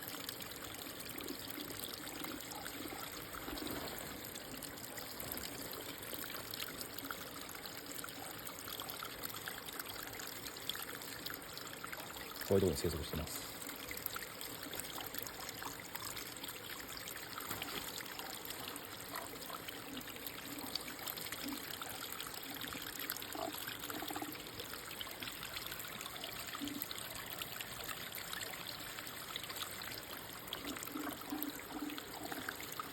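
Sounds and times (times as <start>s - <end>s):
low water gurgles: 0.0s - 32.9s
stream running over rocks: 0.0s - 32.9s.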